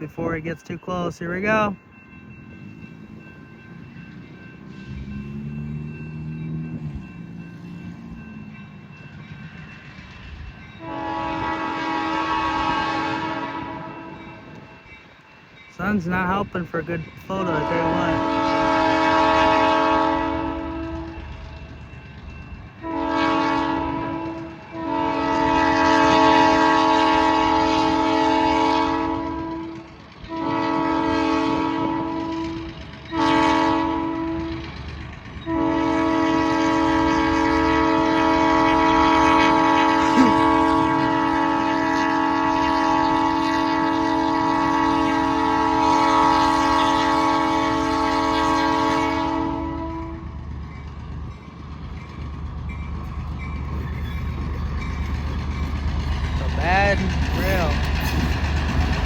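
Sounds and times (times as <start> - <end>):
locomotive multi-chime air horn: 0.0 - 21.5, 22.2 - 34.8, 35.4 - 50.4.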